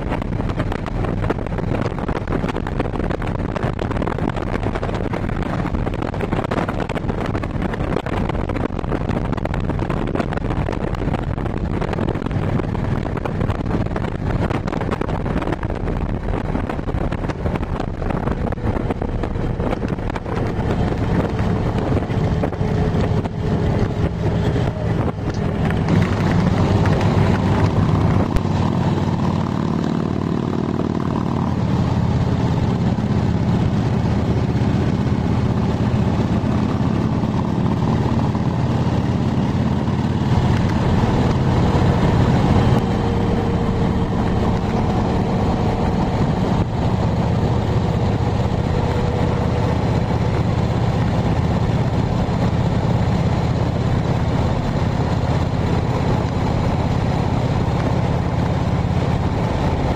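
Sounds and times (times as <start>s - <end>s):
car cabin engine and road drone: 0.0s - 59.9s
motorcycle engine drone: 0.0s - 59.9s
wind rushing over microphone: 0.0s - 59.9s.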